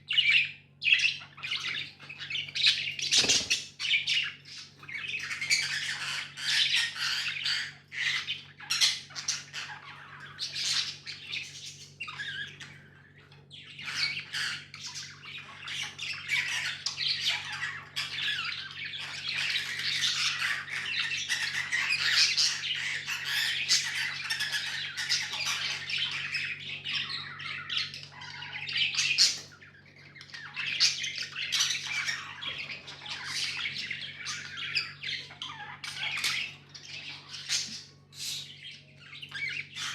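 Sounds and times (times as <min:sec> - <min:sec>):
budgies chirping and chattering: 0:00.0 - 0:39.9.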